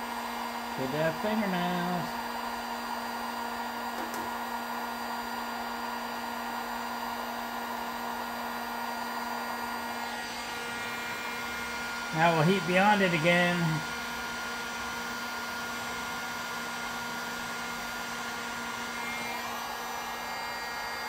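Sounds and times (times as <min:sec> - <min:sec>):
heat gun blower hum and hiss: 0:00.0 - 0:21.0.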